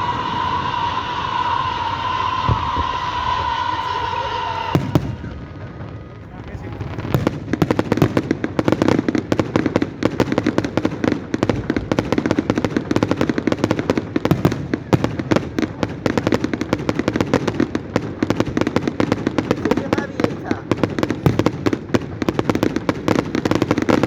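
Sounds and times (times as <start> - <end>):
fireworks banging and crackling: 0.0 - 24.0.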